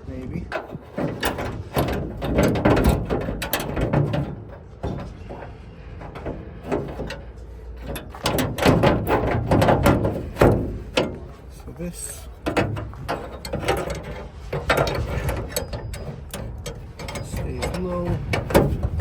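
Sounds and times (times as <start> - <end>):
metal lock clicking and rattling: 0.5 - 11.7, 12.3 - 19.0.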